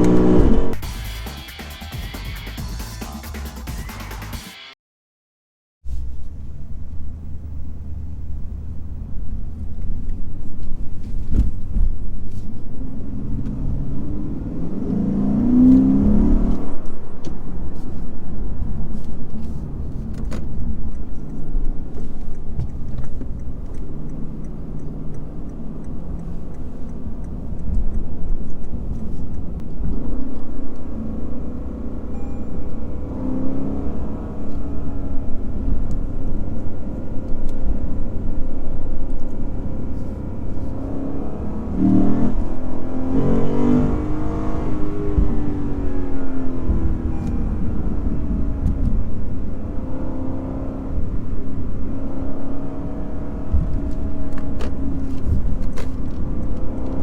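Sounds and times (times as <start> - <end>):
car engine accelerating: 0.0 - 3.5, 5.9 - 57.0.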